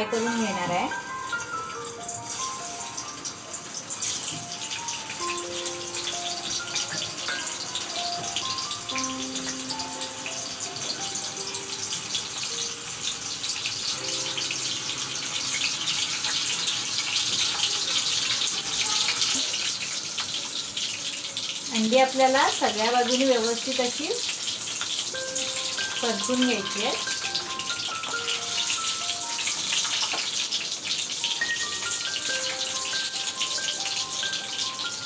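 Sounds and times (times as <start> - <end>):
background music held notes: 0.0 - 18.7, 23.2 - 35.0
eggs sizzling in hot oil: 0.0 - 35.0.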